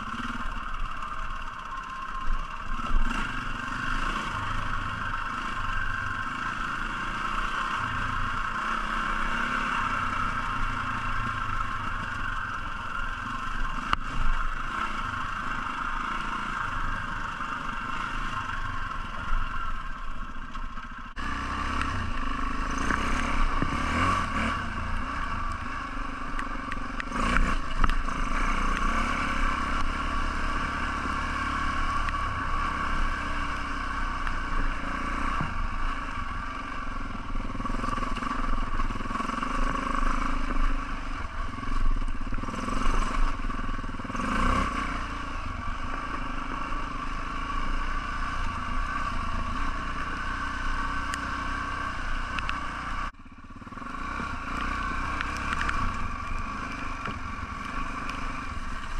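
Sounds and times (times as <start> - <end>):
motorbike engine revving: 0.0 - 20.3, 20.9 - 58.9.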